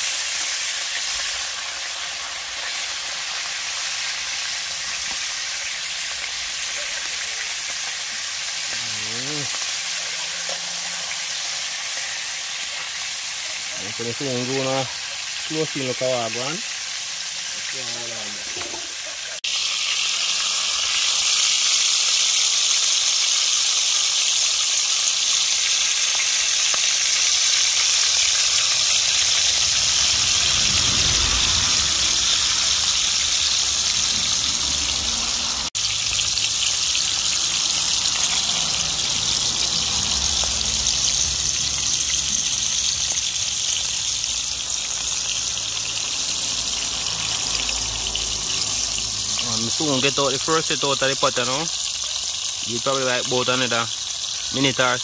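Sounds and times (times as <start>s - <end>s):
hot oil sizzling in a pan: 0.0s - 55.0s.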